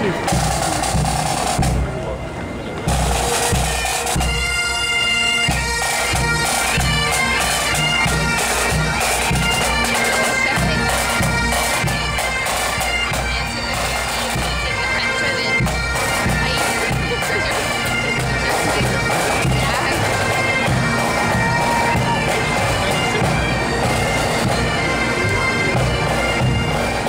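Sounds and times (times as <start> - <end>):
bagpipes playing a tune: 0.0 - 27.0.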